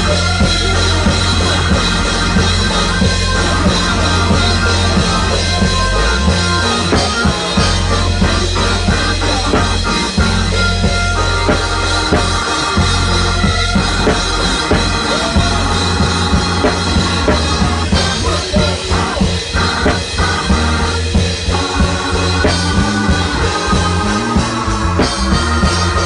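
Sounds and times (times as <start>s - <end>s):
drum kit beat: 0.0s - 26.0s
live band music: 0.0s - 26.0s.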